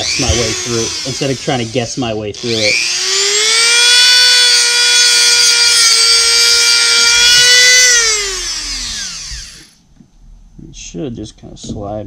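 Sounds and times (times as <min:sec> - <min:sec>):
rotary tool whining and spinning down: 0:00.0 - 0:09.8.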